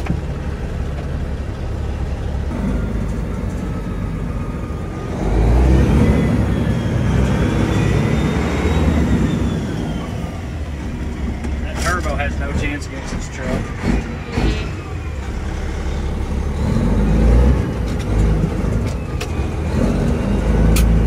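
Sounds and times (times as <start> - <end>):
diesel truck engine accelerating: 0.0 - 21.0.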